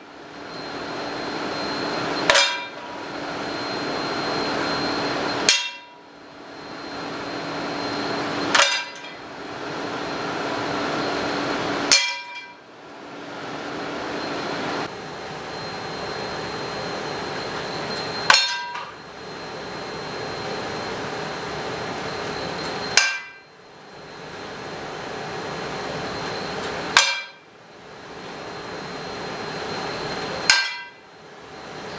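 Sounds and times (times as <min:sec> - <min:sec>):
machine hum with high whine: 0:00.0 - 0:31.9.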